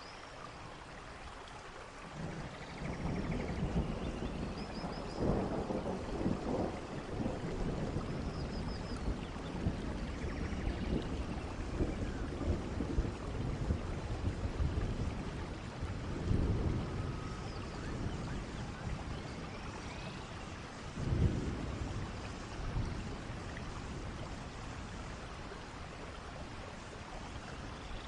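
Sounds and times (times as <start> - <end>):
steady rain falling: 0.0 - 28.0
thunder rumbling: 2.1 - 27.8.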